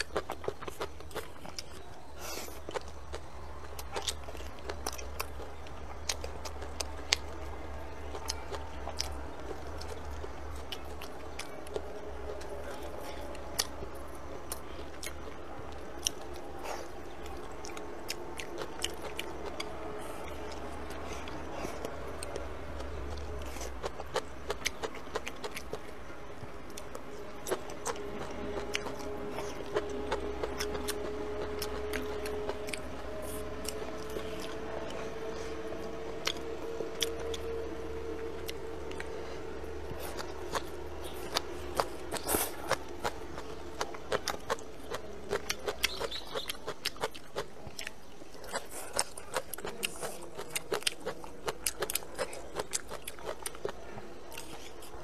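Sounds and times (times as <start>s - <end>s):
faint steady hum: 0.0s - 55.0s
person chewing food: 0.0s - 55.0s.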